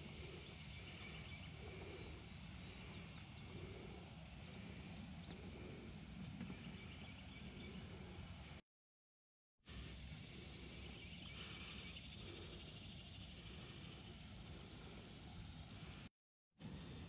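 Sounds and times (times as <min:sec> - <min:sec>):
high insect drone: 0:00.0 - 0:08.6, 0:09.7 - 0:17.0.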